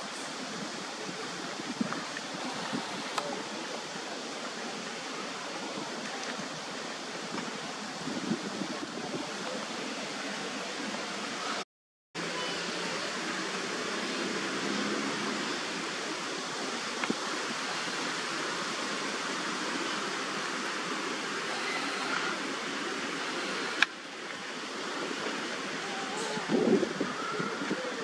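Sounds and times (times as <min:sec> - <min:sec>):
steady hiss: 0:00.0 - 0:11.6, 0:12.2 - 0:28.0.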